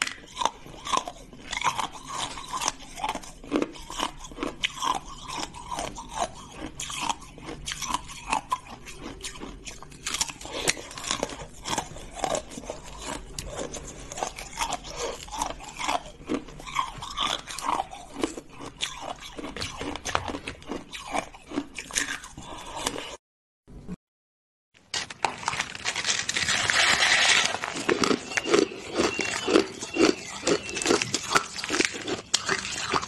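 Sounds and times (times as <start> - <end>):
ice being chewed: 0.0 - 23.2, 25.0 - 33.0.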